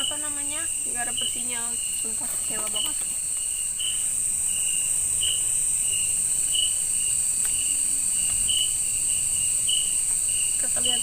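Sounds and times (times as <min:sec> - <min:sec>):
high-pitched insect trill: 0:00.0 - 0:11.0
lower insect chirp: 0:00.0 - 0:11.0.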